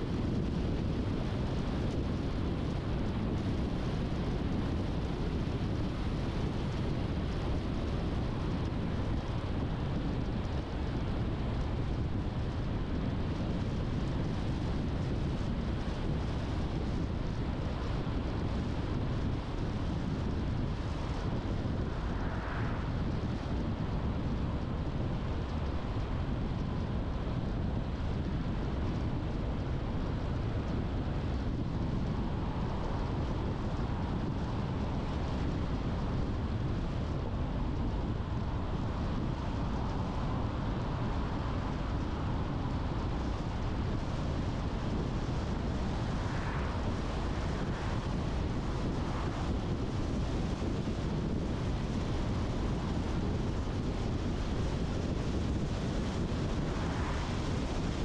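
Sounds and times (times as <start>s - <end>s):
car driving on road: 0.0s - 58.0s.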